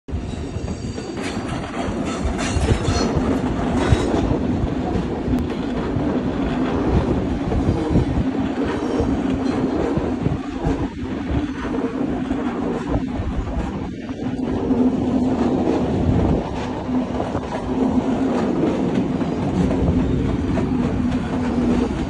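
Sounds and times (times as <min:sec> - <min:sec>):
train wheels rumbling on rails: 0:00.1 - 0:22.0.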